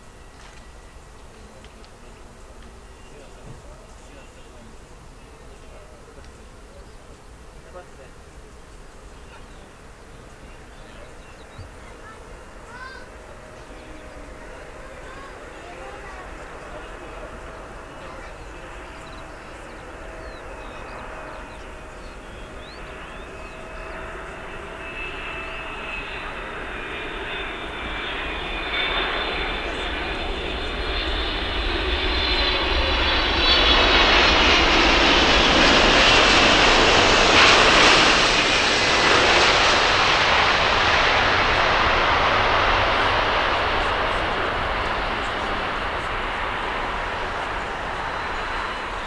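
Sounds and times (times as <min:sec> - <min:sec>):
aircraft engines rushing and whining: 0:00.0 - 0:49.0.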